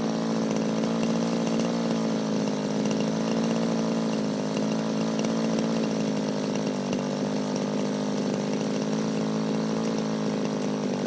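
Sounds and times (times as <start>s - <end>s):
model helicopter engine running: 0.0s - 11.0s.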